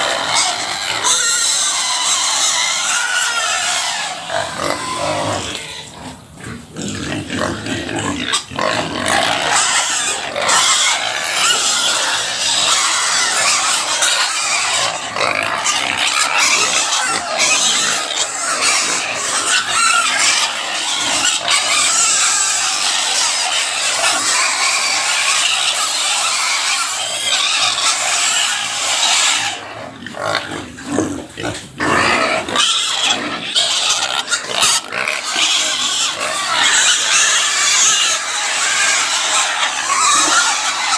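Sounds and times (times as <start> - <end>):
pig squealing loudly: 0.0 - 40.9.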